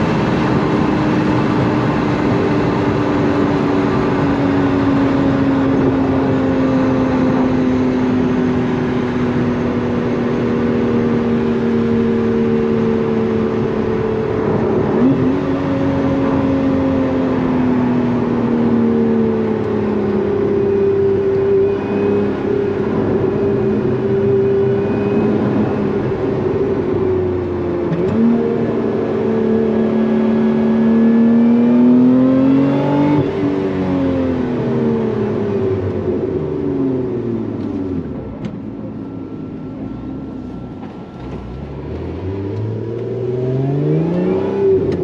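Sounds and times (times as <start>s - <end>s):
car engine downshifting: 0.0s - 45.0s
road and wind noise: 0.0s - 45.0s.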